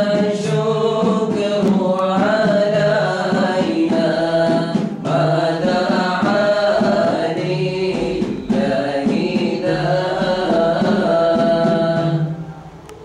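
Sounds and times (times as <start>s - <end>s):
men singing in unison: 0.0s - 12.5s
frame drum: 0.0s - 12.6s.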